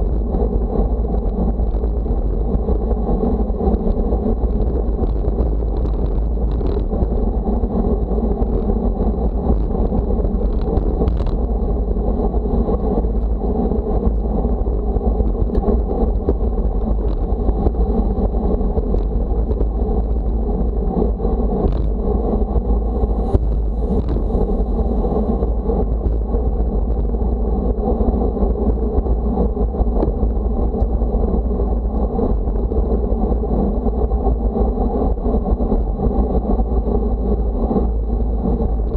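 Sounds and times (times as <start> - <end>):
faint steady whine: 0.0 - 38.9
wind rumbling on microphone: 0.0 - 38.9.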